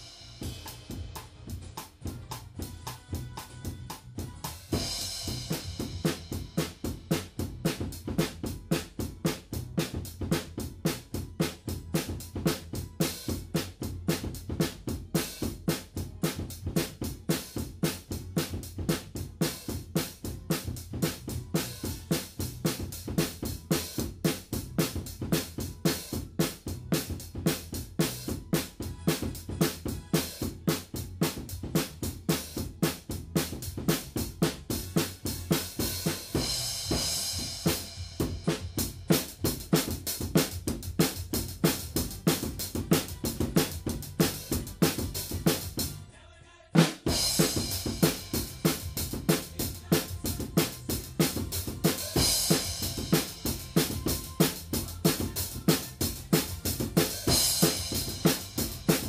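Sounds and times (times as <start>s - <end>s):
drum kit groove: 0.0s - 46.1s, 46.7s - 59.0s.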